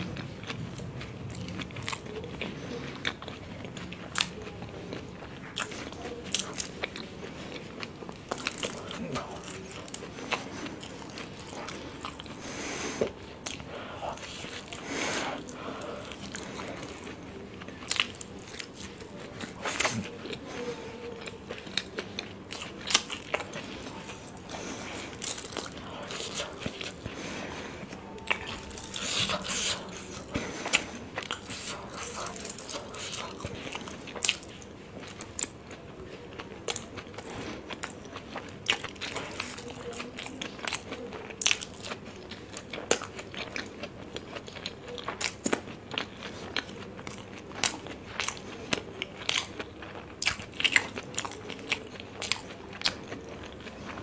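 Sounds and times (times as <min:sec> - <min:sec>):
person chewing soft food: 0:00.0 - 0:54.0.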